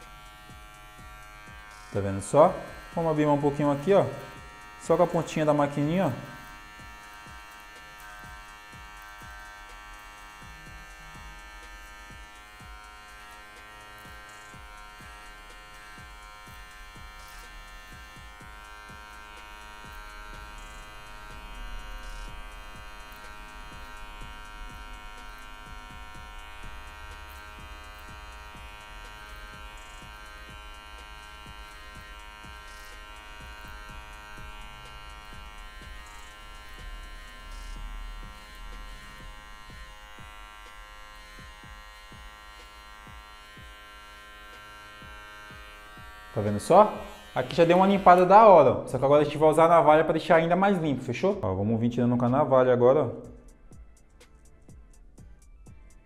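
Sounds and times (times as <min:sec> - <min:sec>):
hair trimmer buzzing: 0:00.0 - 0:51.4.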